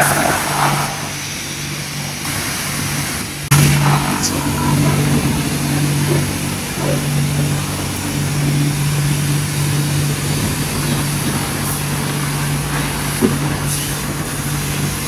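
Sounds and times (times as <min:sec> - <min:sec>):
pump hum: 0:00.0 - 0:15.0
water jet hissing: 0:00.0 - 0:15.0.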